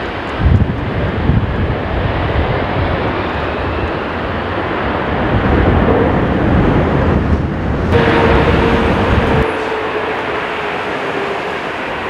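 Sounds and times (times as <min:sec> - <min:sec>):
jet engine whine: 0:00.0 - 0:12.0
jet engines rumbling: 0:00.0 - 0:12.0
wind noise on microphone: 0:00.0 - 0:12.0.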